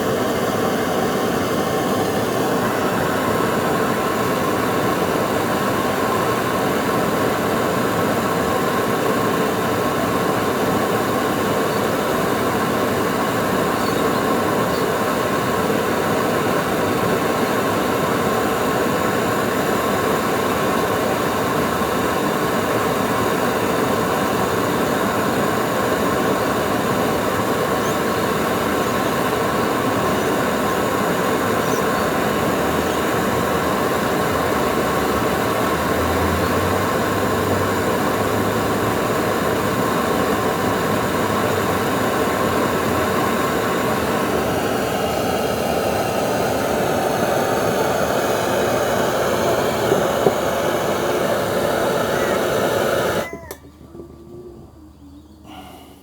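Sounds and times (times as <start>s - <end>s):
gas burner flame roaring: 0.0s - 53.6s.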